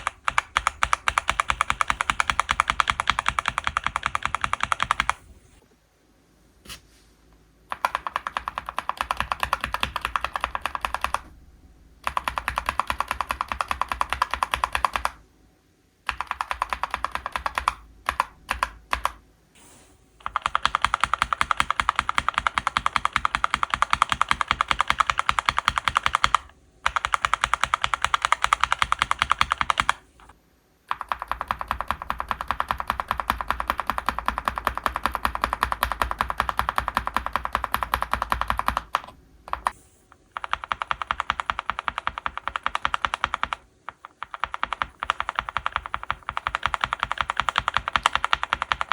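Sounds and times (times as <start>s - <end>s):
fast mechanical keyboard typing: 0.0s - 5.2s, 7.7s - 11.3s, 12.0s - 15.2s, 16.1s - 19.2s, 20.2s - 48.9s.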